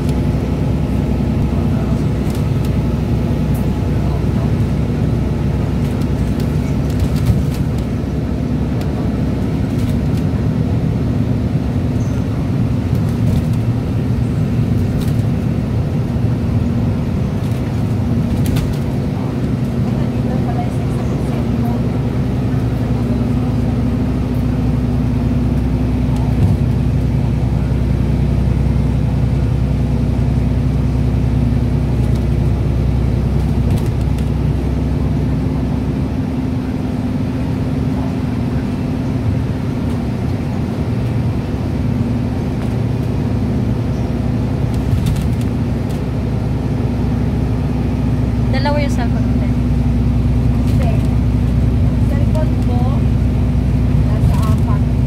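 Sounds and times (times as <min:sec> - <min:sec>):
vehicle engine and tyre drone: 0:00.0 - 0:55.0.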